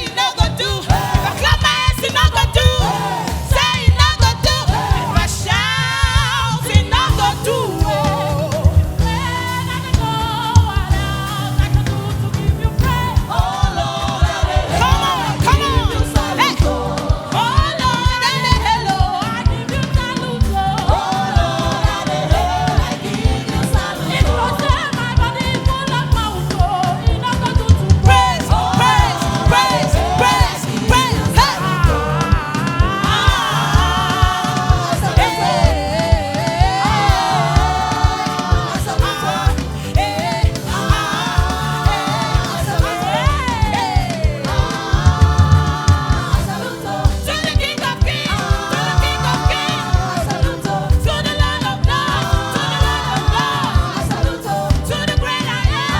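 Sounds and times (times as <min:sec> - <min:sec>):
band with drum beat and bass: 0:00.0 - 0:55.9
gospel singing with vibrato: 0:00.0 - 0:55.9.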